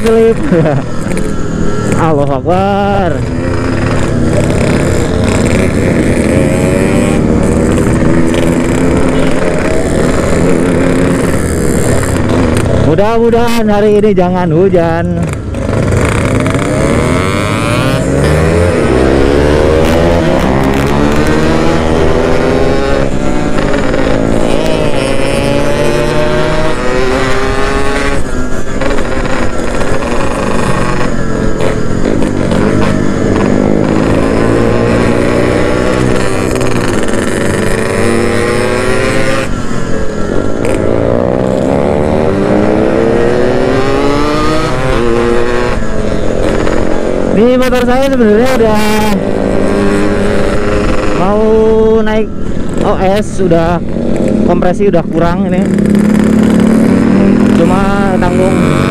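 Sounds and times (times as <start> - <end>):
two-stroke motorcycle engine revving: 0.0 - 58.9.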